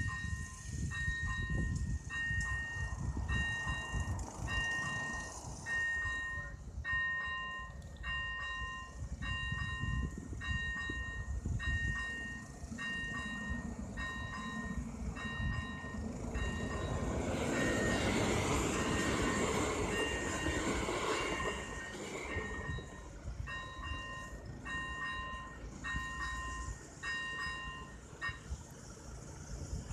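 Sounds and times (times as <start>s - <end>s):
electric train rumble: 0.0s - 29.9s.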